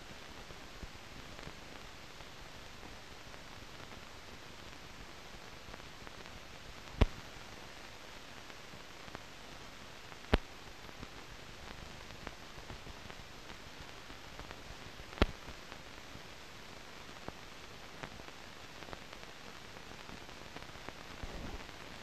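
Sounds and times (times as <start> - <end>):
film soundtrack hiss: 0.0 - 22.0
film pops and ticks: 0.1 - 22.0.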